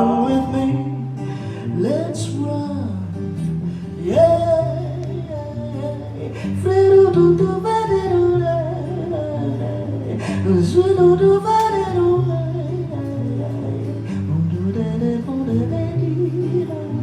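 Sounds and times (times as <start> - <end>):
woman singing wordless vocal: 0.0 - 2.8, 4.1 - 17.0
strummed acoustic guitar: 0.0 - 17.0.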